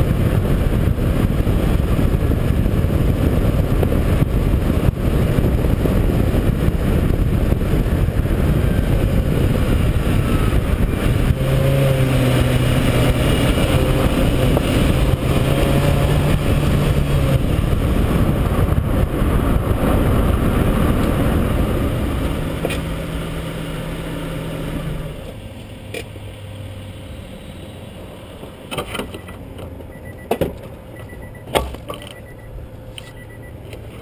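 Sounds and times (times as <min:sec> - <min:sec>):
car engine driving: 0:00.0 - 0:34.0.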